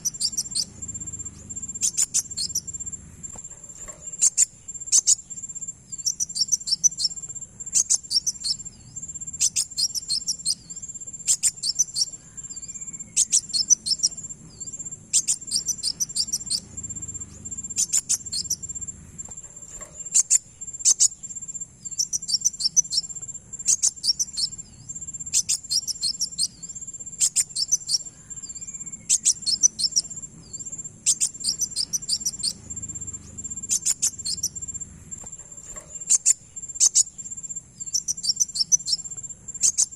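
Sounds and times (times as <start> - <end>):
shrill insect-like drone: 0.0 - 39.9
sunbird chips and trills: 0.0 - 39.9.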